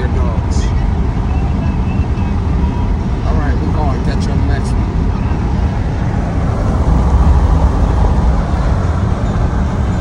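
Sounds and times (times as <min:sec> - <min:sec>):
low rumble of moving car: 0:00.0 - 0:10.0.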